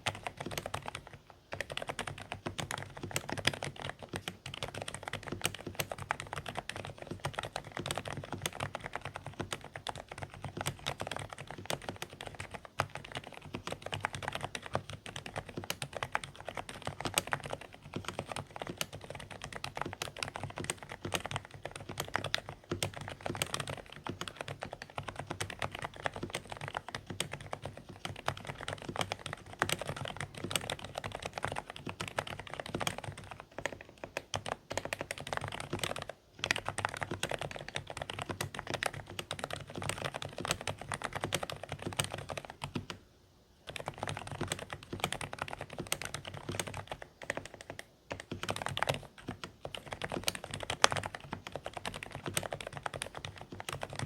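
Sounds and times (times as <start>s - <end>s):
fast typing on keyboard: 0.0s - 43.0s, 43.6s - 54.0s.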